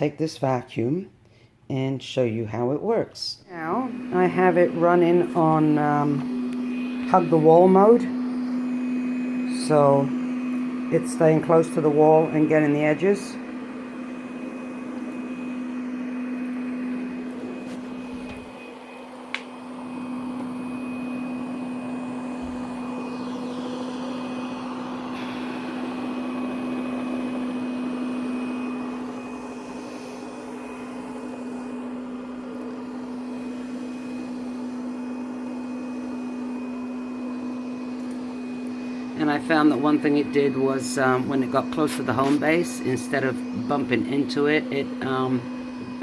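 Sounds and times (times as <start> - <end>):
robot vacuum cleaner running: 3.5 - 46.0.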